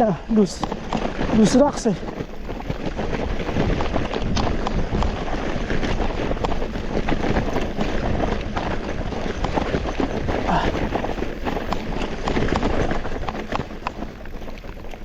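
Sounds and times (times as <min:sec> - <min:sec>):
bike rattling: 0:00.0 - 0:15.0
tyres crunching on gravel: 0:00.0 - 0:15.0
wind buffeting microphone: 0:00.0 - 0:15.0.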